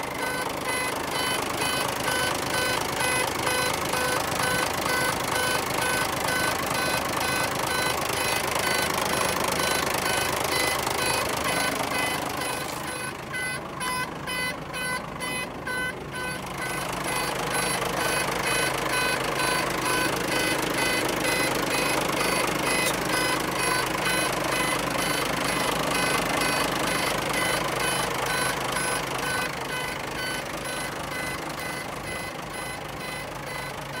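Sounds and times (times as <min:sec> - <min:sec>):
diesel truck engine running: 0:00.0 - 0:34.0
electronic warning beeper: 0:00.0 - 0:34.0.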